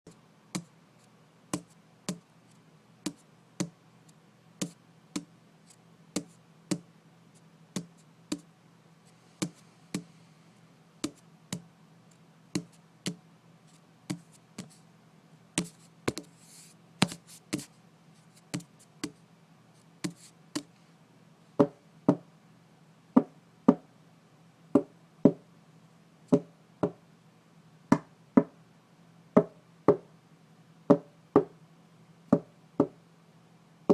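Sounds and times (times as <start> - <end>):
faint steady hum: 0.1 - 33.9.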